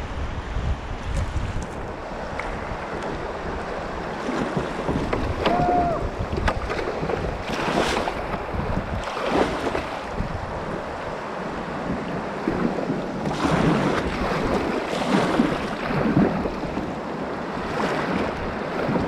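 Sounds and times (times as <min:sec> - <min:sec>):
wind buffeting microphone: 0:00.0 - 0:19.0
paddle splashing: 0:01.1 - 0:19.0.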